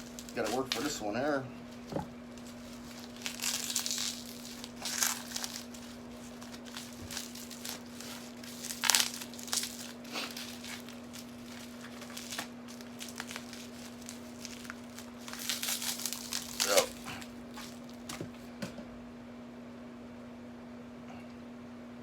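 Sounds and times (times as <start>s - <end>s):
packing padding crinkling: 0.0s - 18.5s.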